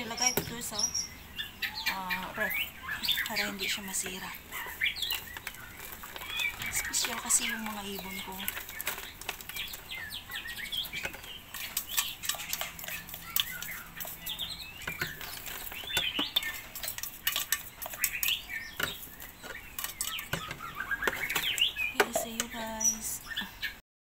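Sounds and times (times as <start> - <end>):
caged birds chirping: 0.0 - 23.8
spoon scraping and knocking metal jar: 3.2 - 22.6.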